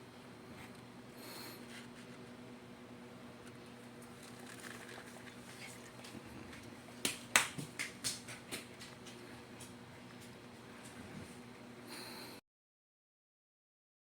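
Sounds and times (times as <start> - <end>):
faint steady hum: 0.0 - 12.4.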